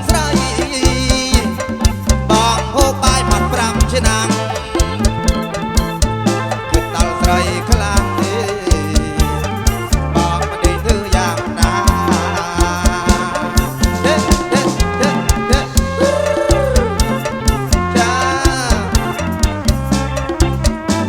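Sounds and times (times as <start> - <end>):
wavering melody: 0.0 - 20.4
drum kit beat: 0.0 - 21.0
live band music: 0.0 - 21.0
stepping bass line: 0.0 - 21.0.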